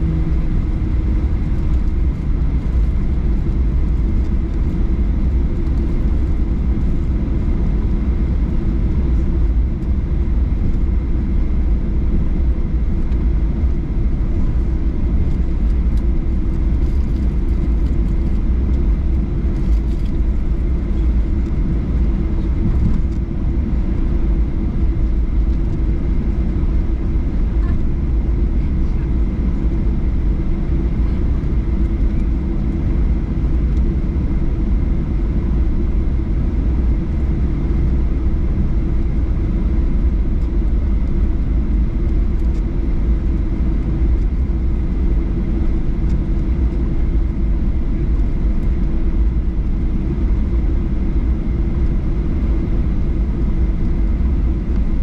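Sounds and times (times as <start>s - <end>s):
aircraft cabin rumble: 0.0s - 55.0s
faint engine whine: 0.0s - 55.0s.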